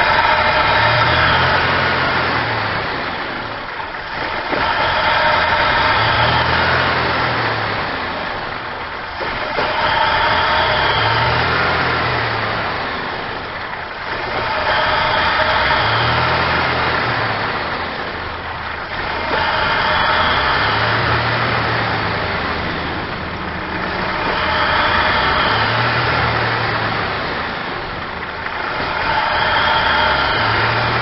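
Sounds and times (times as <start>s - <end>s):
car engine idling roughly: 0.0s - 31.0s.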